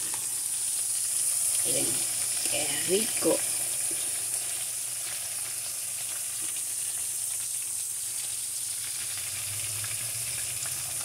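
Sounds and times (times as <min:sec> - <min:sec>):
fish sizzling in frying pan: 0:00.0 - 0:11.0.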